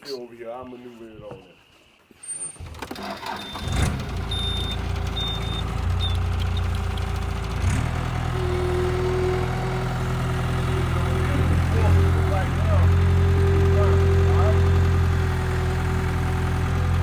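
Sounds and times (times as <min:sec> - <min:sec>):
skid steer engine running: 0:02.6 - 0:17.0.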